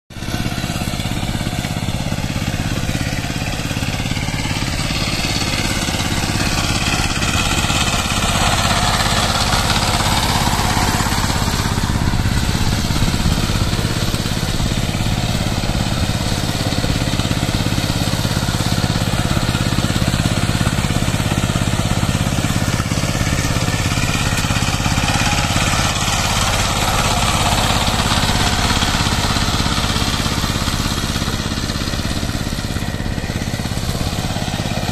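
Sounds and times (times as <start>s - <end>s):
diesel engine running under load: 0.1s - 34.9s.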